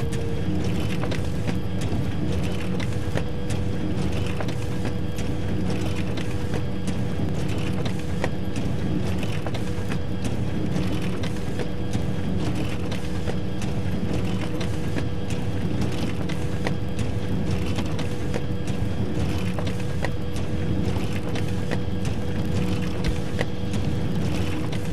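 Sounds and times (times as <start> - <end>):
photocopier motor humming: 0.0 - 24.9.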